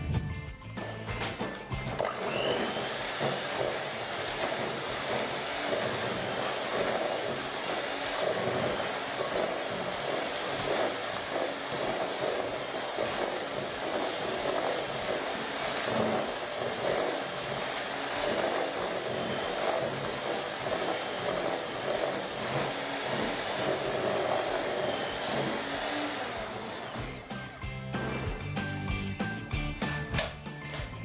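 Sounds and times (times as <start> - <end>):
electric hand mixer running: 0.8 - 30.1.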